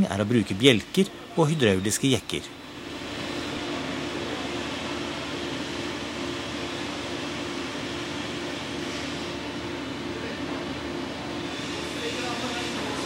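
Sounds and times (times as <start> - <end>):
workshop machinery hum: 0.0 - 13.0.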